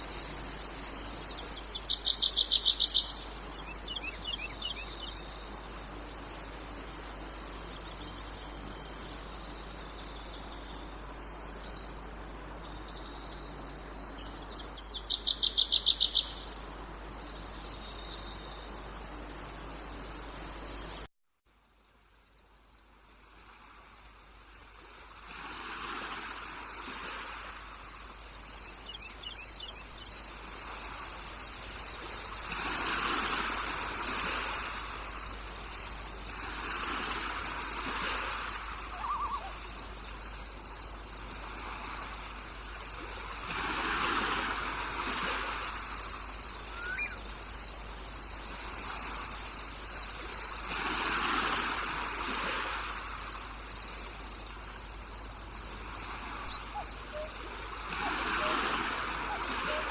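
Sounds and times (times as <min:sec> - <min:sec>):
crickets trilling: 0:00.0 - 0:59.9
pulsed cricket chirping: 0:00.0 - 0:59.9.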